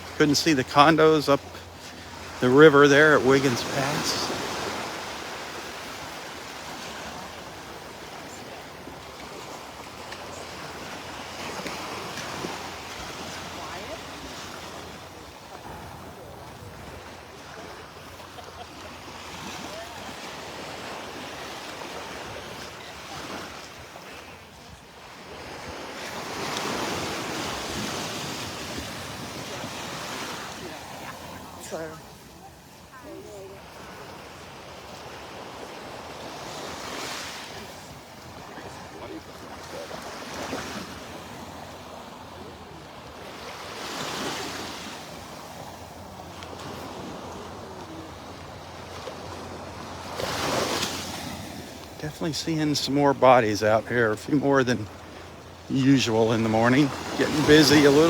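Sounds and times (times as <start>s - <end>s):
surf washing onto beach: 0.0s - 58.0s.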